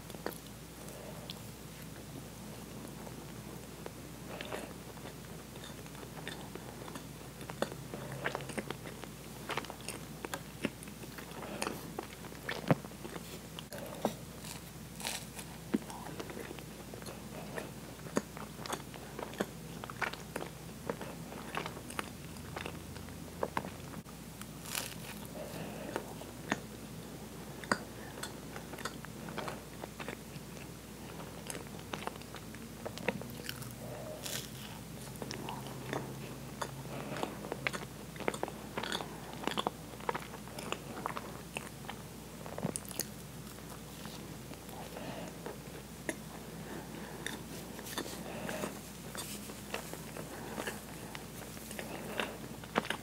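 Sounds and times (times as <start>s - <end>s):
close chewing with mouth clicks: 2.8s - 26.8s, 27.5s - 53.0s.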